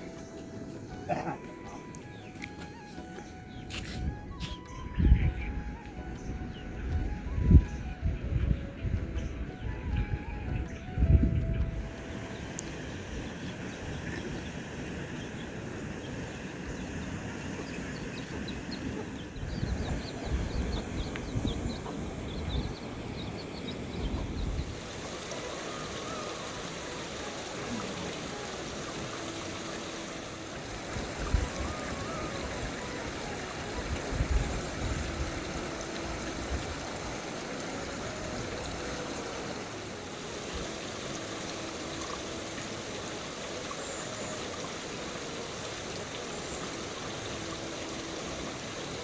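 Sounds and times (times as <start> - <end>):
flowing stream: 0.0 - 49.0.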